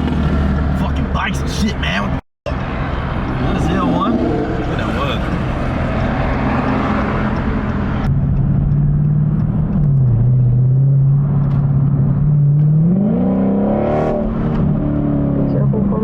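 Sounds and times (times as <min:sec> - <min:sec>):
car engine running: 0:00.0 - 0:13.2.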